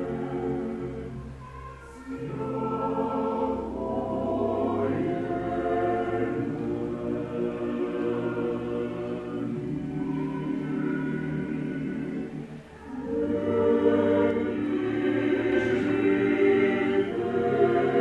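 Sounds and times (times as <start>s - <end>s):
choir chanting a cappella: 0.0s - 18.0s.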